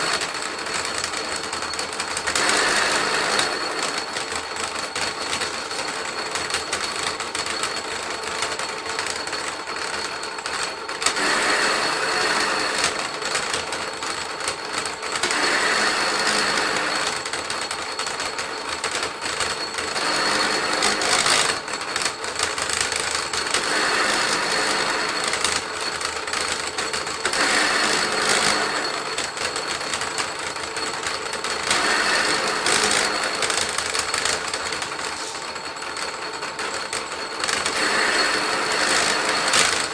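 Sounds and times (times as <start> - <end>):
splitting machine whining: 0.0 - 39.9.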